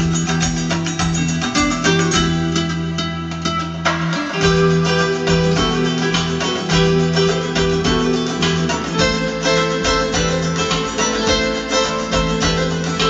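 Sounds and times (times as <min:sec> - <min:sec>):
plucked-string music over bass: 0:00.0 - 0:13.0.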